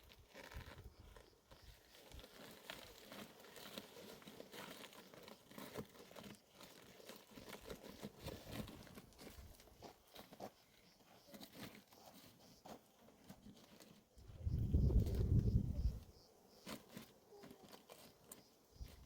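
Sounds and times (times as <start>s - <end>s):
small clicks and crunches: 0.0s - 14.2s, 16.6s - 19.0s
rustling and crinkling: 0.0s - 19.0s.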